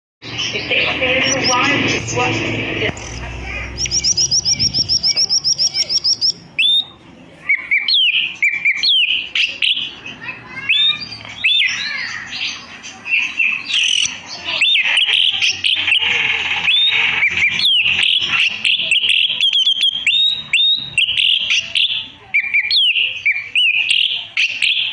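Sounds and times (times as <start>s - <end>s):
bird singing: 0.2s - 2.2s, 2.9s - 24.9s.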